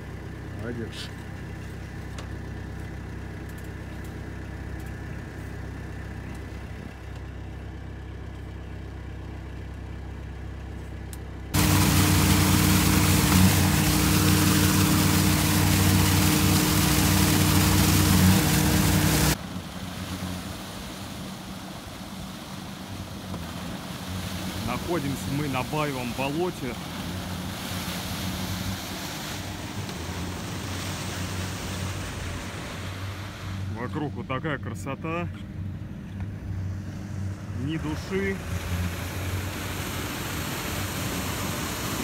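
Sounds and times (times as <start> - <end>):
diesel engine idling: 0.0 - 41.9
engine running hard: 0.0 - 42.0.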